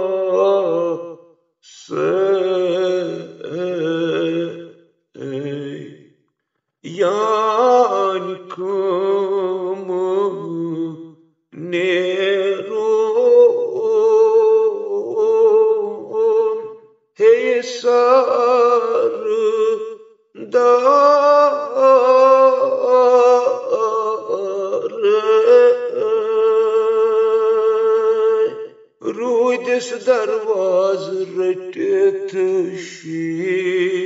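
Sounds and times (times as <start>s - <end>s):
man singing unaccompanied: 0.0s - 6.1s, 6.8s - 34.0s.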